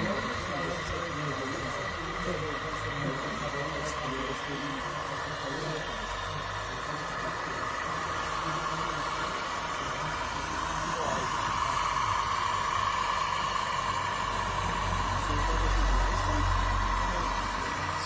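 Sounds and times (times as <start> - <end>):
toy machine motor whine: 0.0 - 18.0.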